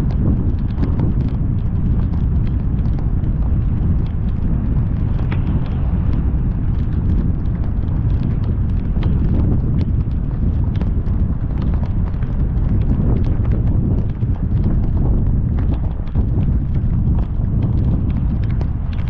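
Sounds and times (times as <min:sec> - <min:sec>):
car rumble on wet road: 0:00.0 - 0:19.0
raindrops ticking on car: 0:00.0 - 0:19.0.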